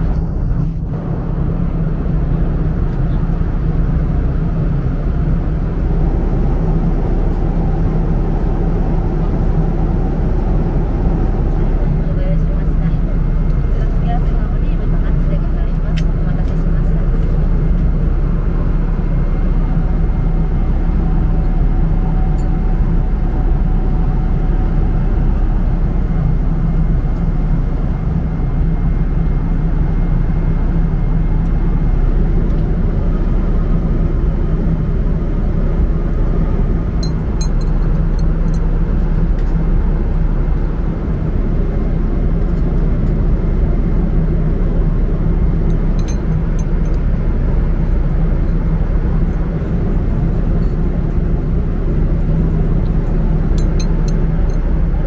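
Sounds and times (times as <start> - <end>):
jet airliner cabin drone: 0.0 - 55.0.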